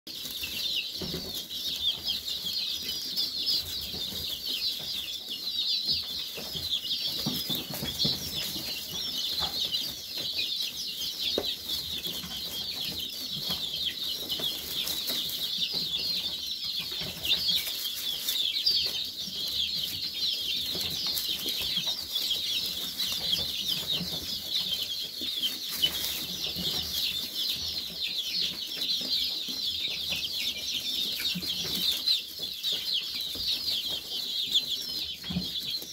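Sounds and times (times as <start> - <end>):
chicks peeping and cheeping: 0.1 - 35.9.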